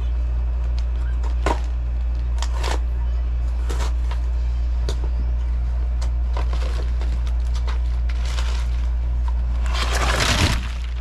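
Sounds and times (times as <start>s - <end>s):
steady low hum: 0.0s - 11.0s
groceries knocking and rustling: 0.6s - 2.9s, 3.5s - 5.2s, 5.9s - 11.0s.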